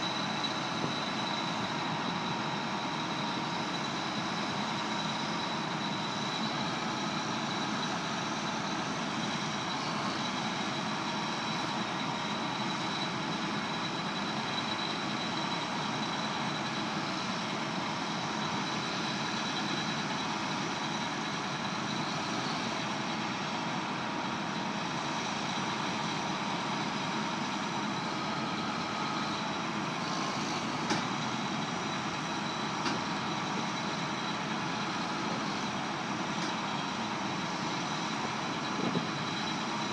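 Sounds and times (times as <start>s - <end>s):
diesel farm machinery running: 0.0s - 39.9s
steady high whine: 0.0s - 39.9s.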